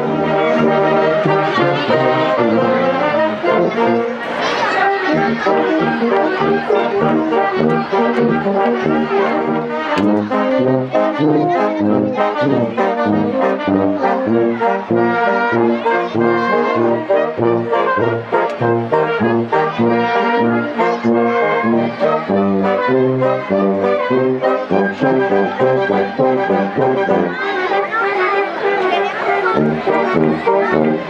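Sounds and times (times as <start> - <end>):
tuba bass notes: 0.0 - 27.8, 29.4 - 31.0
wind band playing: 0.0 - 31.0.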